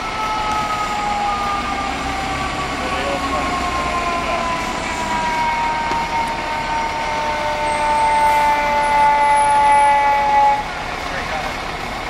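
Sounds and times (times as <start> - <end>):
fire engine air horn: 0.0 - 11.6.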